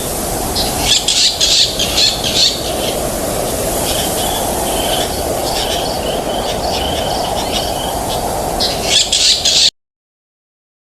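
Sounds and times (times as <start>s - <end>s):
steady wind: 0.0s - 9.7s
small birds chirping: 0.6s - 9.7s.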